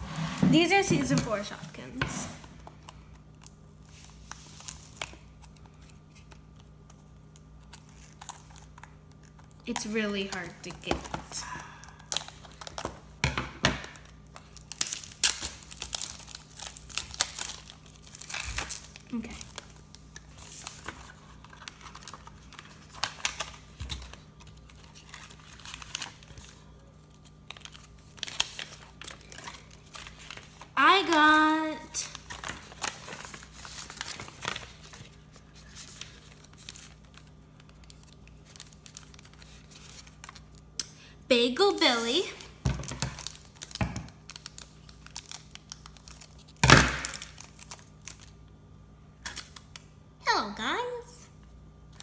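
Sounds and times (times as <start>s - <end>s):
packaging crinkling and tearing: 2.5s - 11.2s, 11.9s - 13.2s, 13.9s - 31.3s, 31.9s - 40.9s, 42.8s - 48.6s, 49.2s - 49.9s.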